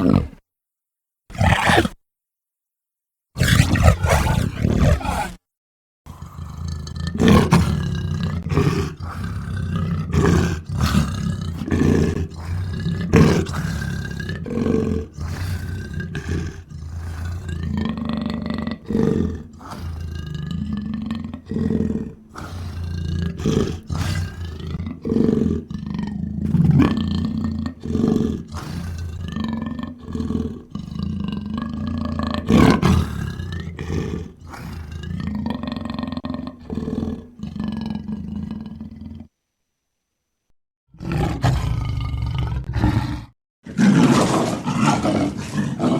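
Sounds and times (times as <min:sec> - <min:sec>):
creature roars and growls: 0:00.0 - 0:00.4, 0:01.3 - 0:02.0, 0:03.4 - 0:05.4, 0:06.1 - 0:38.6, 0:40.9 - 0:45.9.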